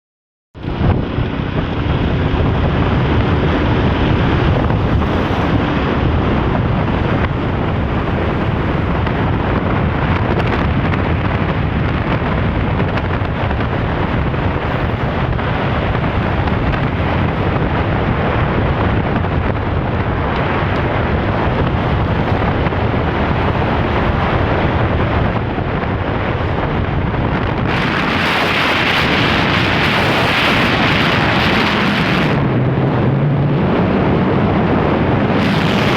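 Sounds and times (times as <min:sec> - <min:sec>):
wind blasting over microphone: 0:00.6 - 0:35.9.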